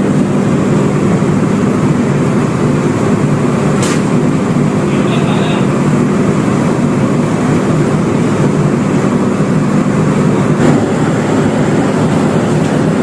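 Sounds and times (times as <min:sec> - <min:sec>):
machinery and ventilation drone: 0:00.0 - 0:13.0.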